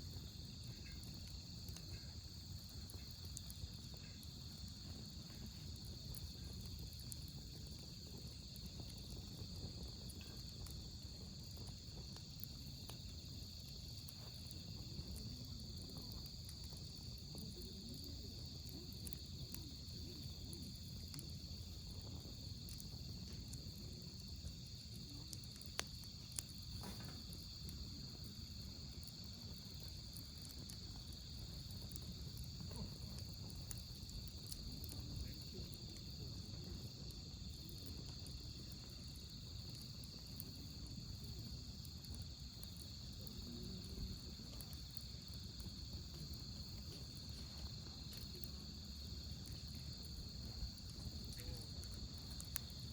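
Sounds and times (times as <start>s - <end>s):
campfire crackling: 0.0s - 52.9s
crickets chirping: 0.0s - 52.9s.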